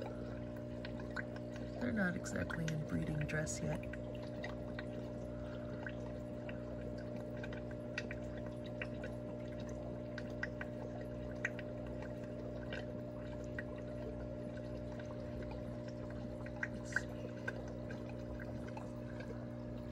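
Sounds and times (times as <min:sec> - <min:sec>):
aquarium filter hum: 0:00.0 - 0:19.9
water drips and bubble pops: 0:00.0 - 0:19.9
water trickling: 0:00.0 - 0:19.9.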